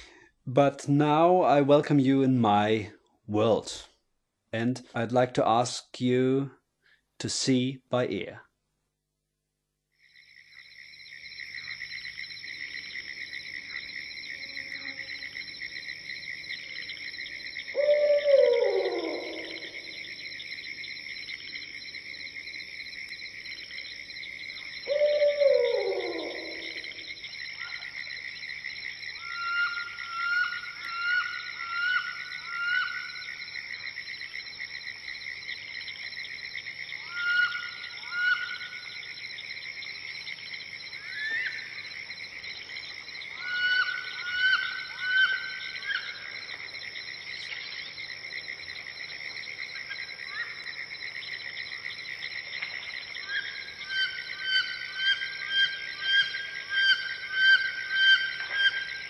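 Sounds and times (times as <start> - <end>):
insects and frogs chorus: 0.0 - 0.4, 10.0 - 59.0.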